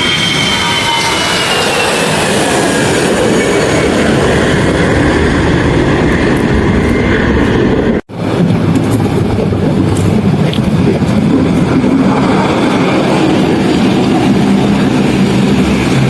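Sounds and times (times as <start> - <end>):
jet aircraft passing: 0.0 - 16.0.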